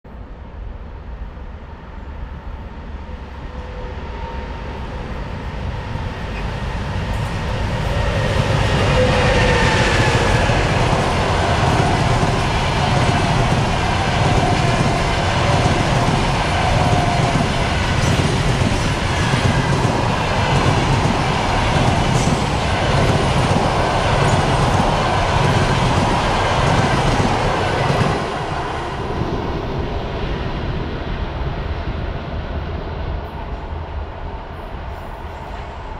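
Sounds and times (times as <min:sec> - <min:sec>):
electric train passing: 0:00.2 - 0:35.9.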